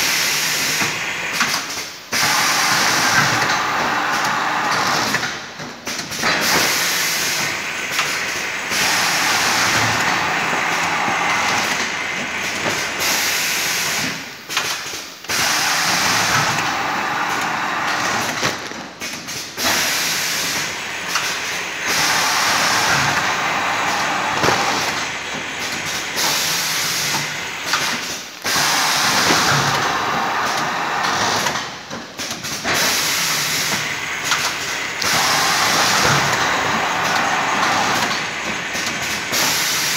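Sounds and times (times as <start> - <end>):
packing machine hissing: 0.0 - 39.9.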